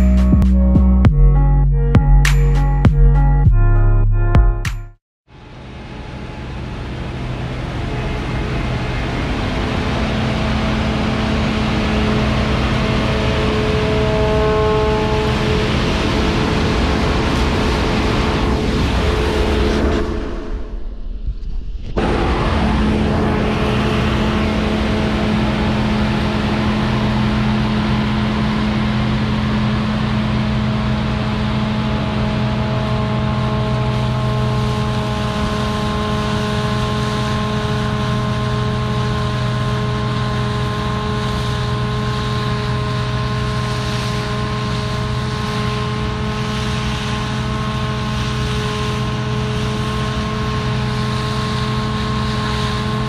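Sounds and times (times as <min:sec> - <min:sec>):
combine harvester diesel drone: 0:00.0 - 0:53.0
constant whining tones: 0:05.5 - 0:53.0.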